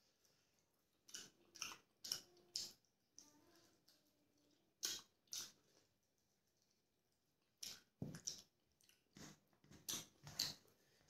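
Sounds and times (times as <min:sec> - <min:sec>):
wet squishing eating sounds: 0:00.0 - 0:11.0.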